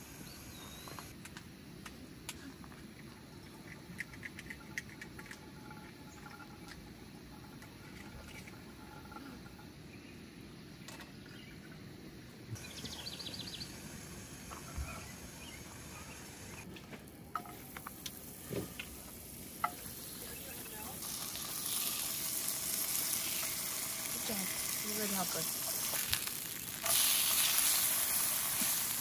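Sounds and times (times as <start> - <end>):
faint chirps: 0.0 - 1.2, 1.8 - 11.9, 12.5 - 16.7, 17.4 - 25.5
light steady hiss: 0.0 - 29.0.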